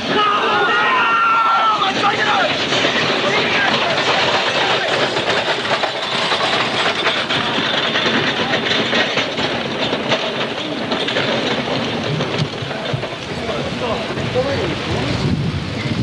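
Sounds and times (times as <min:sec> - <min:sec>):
gun carriage wheels rattling: 0:00.0 - 0:16.0.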